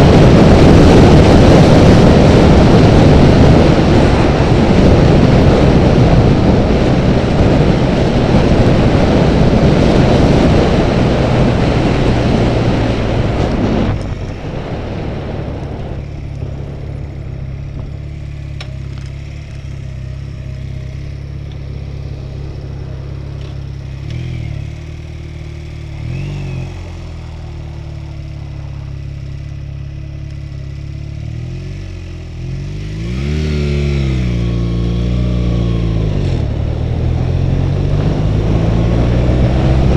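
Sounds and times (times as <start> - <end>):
motorcycle engine: 0.0 - 39.9
wind rush on camera: 0.0 - 39.9.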